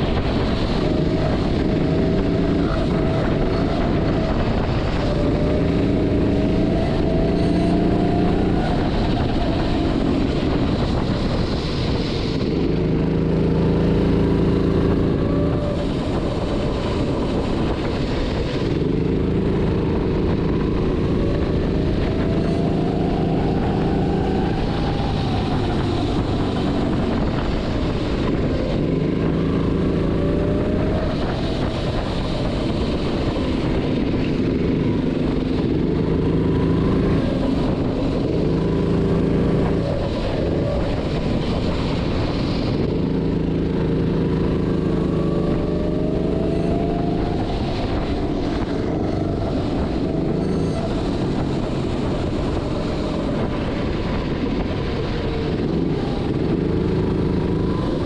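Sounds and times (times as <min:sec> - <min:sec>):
go-kart engine revving: 0:00.0 - 0:58.0
steady rushing noise: 0:00.0 - 0:58.0.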